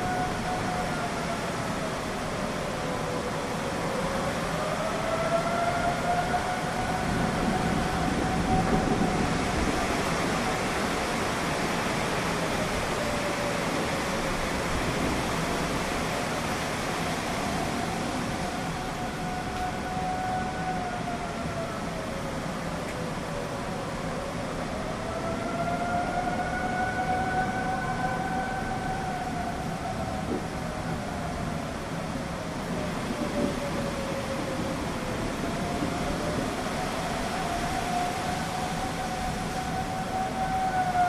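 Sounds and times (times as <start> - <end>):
steady rushing background noise: 0.0 - 41.0
warning siren wailing: 0.0 - 41.0.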